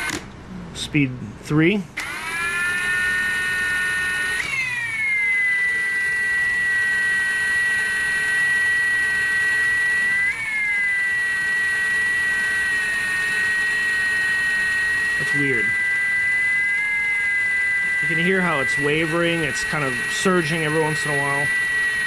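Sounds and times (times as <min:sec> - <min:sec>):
impact wrench motor whine: 0:00.0 - 0:00.2, 0:02.0 - 0:22.0.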